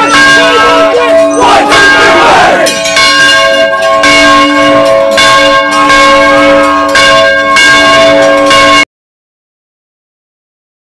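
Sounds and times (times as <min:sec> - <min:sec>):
bell tolling: 0:00.0 - 0:08.9.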